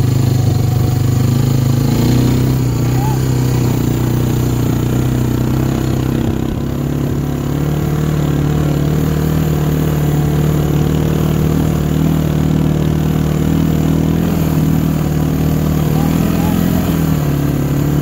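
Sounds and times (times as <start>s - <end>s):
quad engine running: 0.0s - 18.0s.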